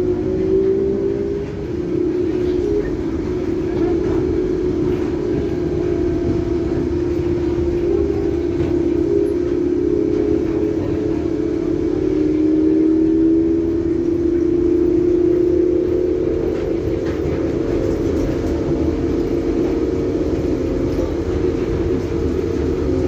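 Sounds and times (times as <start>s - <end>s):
low rumble: 0.0s - 23.0s
train motor whining: 0.0s - 23.0s.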